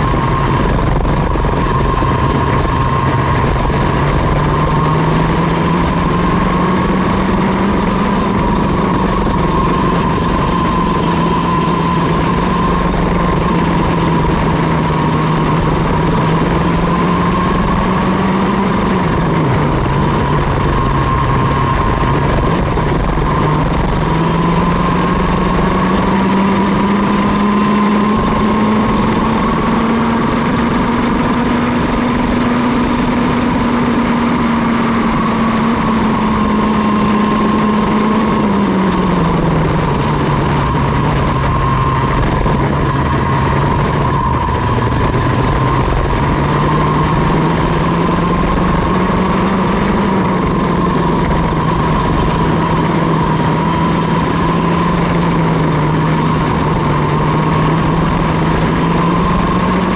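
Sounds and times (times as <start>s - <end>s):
kart engine racing: 0.0s - 59.9s.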